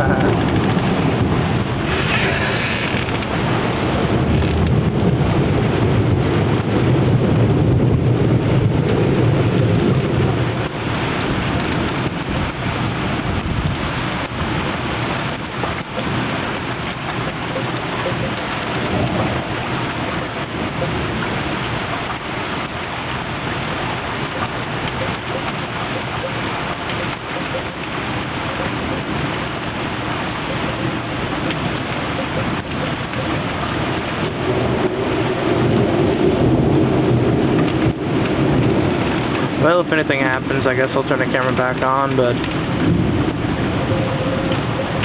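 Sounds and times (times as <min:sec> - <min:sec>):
heavy rain pouring: 0:00.0 - 0:45.0
thunder rumbling: 0:00.0 - 0:45.0.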